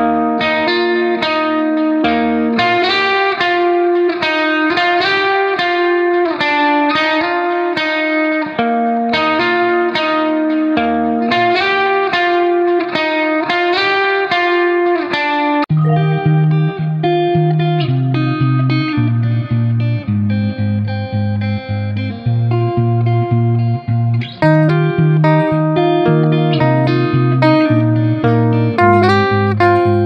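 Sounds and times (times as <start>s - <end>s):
plucked guitar melody: 0.0s - 30.0s.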